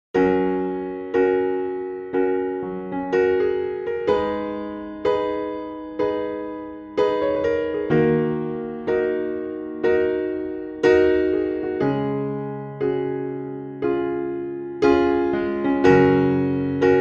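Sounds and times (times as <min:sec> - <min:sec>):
slow piano chords: 0:00.2 - 0:17.0.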